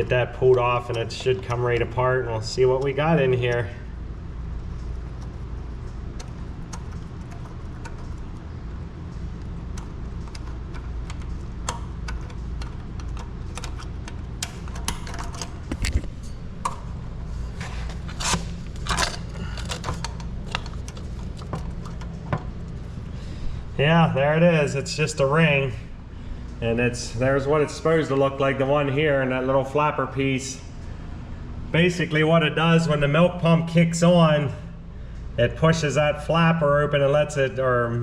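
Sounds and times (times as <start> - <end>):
low machinery hum: 0.0 - 38.0.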